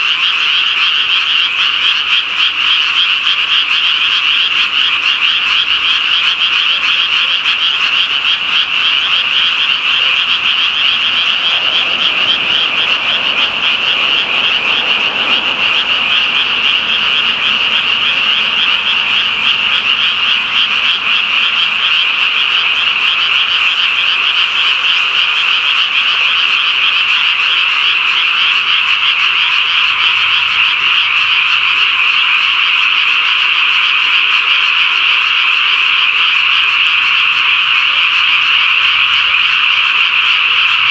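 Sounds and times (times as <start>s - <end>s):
frogs trilling in chorus: 0.0s - 40.9s.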